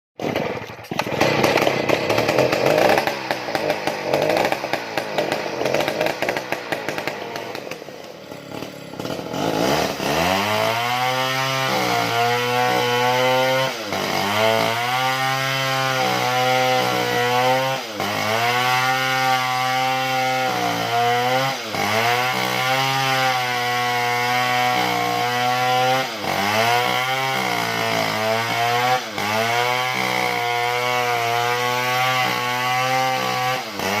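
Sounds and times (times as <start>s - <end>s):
chainsaw cutting log: 0.2s - 34.0s.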